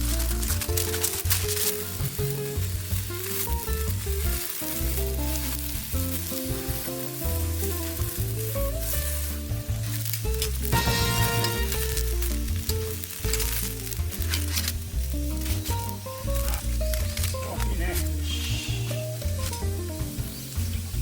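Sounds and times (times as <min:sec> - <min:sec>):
background music: 0:00.0 - 0:21.0
food sizzling and crackling: 0:00.0 - 0:21.0.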